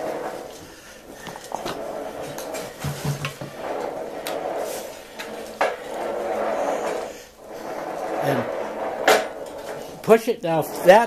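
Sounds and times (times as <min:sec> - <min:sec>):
steel wheels rolling on track: 0:00.0 - 0:11.0.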